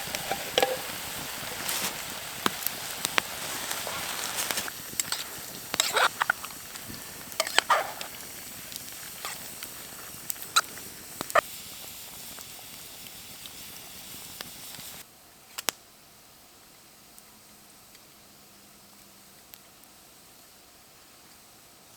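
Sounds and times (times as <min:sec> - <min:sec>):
campfire crackling: 0:00.0 - 0:15.9, 0:16.6 - 0:21.9.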